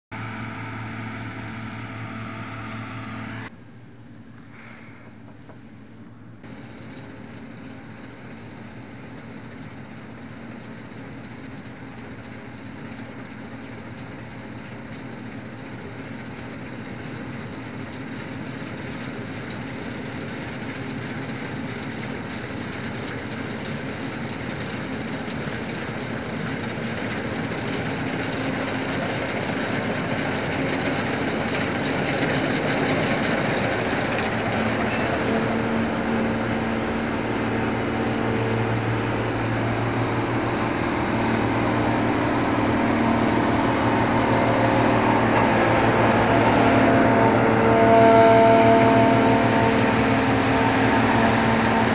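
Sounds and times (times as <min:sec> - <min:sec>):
steady engine hum: 0:00.0 - 0:03.8, 0:04.6 - 0:51.9
combine harvester running: 0:00.1 - 0:03.5, 0:06.4 - 0:51.9.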